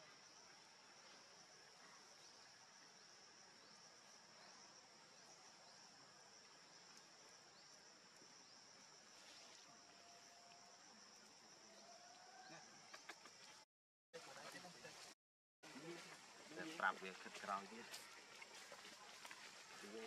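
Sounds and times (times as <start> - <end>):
insects droning: 0.0 - 13.6, 14.2 - 20.0.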